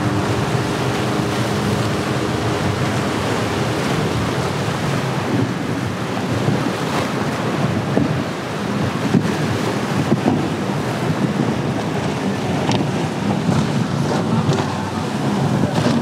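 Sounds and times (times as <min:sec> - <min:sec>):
outboard motor humming: 0:00.0 - 0:16.0
surf and hull spray: 0:00.0 - 0:16.0
wind buffeting microphone: 0:00.0 - 0:16.0.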